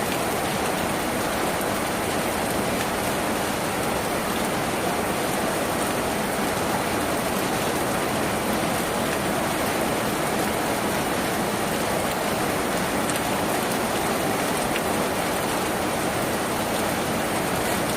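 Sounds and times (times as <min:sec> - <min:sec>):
heavy rain on a tin roof: 0:00.0 - 0:17.9.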